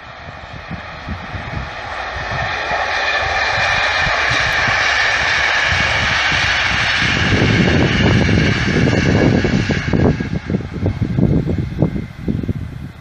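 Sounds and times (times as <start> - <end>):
passenger train passing with whine: 0.0 - 13.0
wind buffeting microphone: 0.0 - 13.0.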